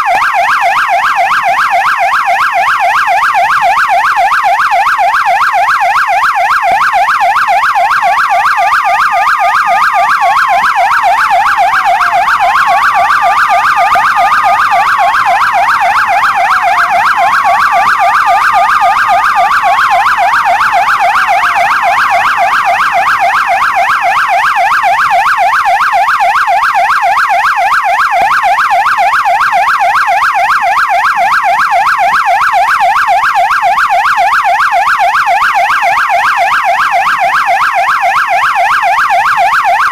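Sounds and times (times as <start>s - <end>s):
police siren yelp: 0.0s - 39.9s
siren wail: 0.0s - 39.9s.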